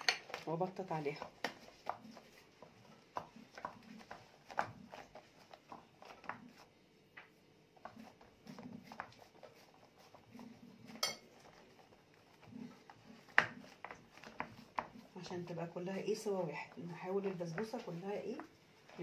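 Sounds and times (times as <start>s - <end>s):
plastic mat rustling and tapping: 0.0s - 19.0s.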